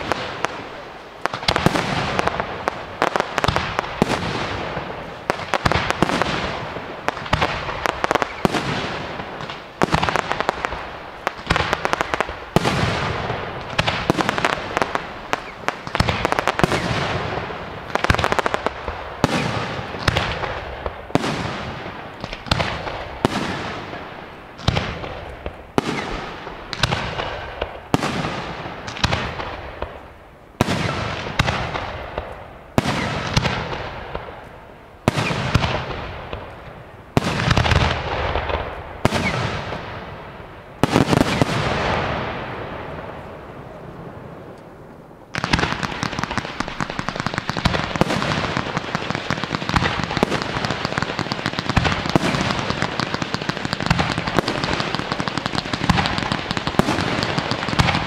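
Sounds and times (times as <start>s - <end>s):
fireworks bursting with echo: 0.0s - 58.0s.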